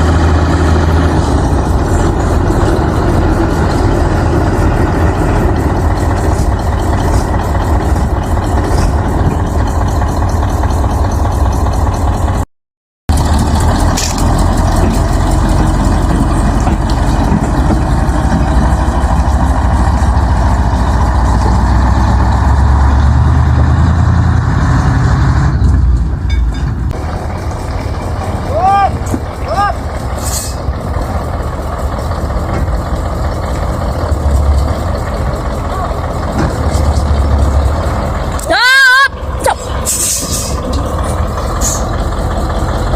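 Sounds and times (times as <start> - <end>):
diesel engine rumbling: 0.0 - 12.5, 13.1 - 42.9.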